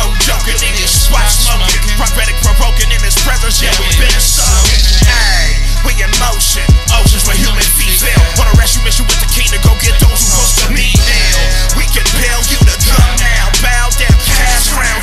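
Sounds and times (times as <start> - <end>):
hip hop beat with heavy bass: 0.0 - 15.0
person rapping: 0.0 - 15.0.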